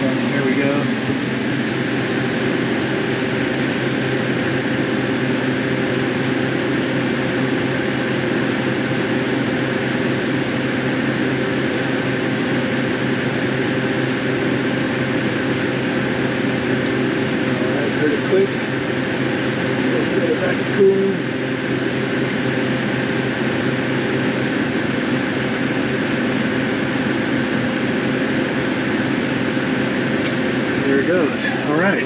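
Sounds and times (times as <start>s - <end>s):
fan rushing noise: 0.0s - 32.0s
low hum: 0.0s - 32.0s.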